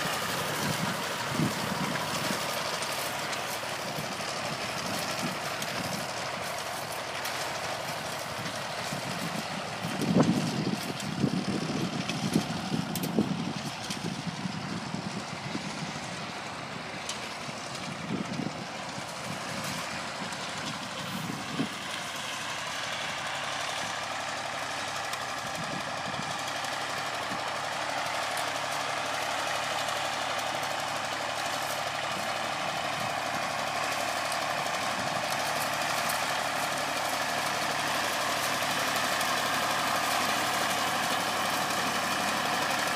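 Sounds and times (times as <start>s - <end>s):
tractor diesel engines running: 0.0s - 42.9s.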